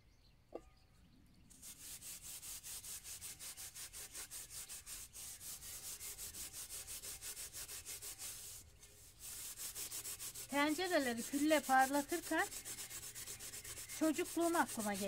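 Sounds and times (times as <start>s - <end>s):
metal pot being scrubbed: 1.6s - 15.0s.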